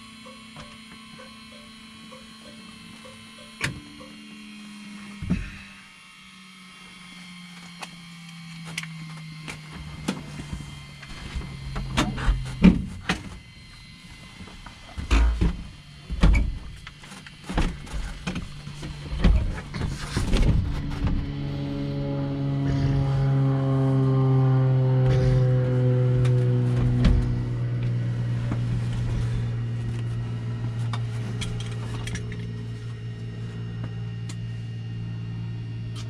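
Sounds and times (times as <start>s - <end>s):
electric whine spinning down: 0.0s - 36.0s.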